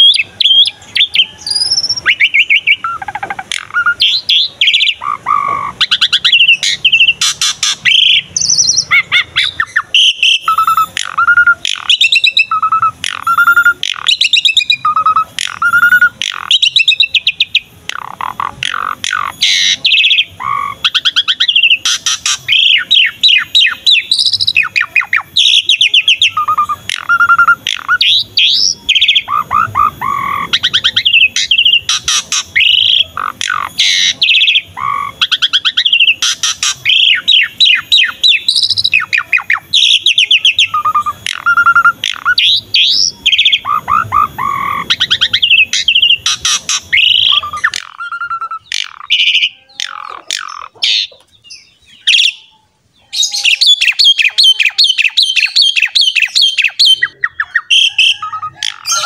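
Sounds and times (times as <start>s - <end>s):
starling singing: 0.0s - 59.0s.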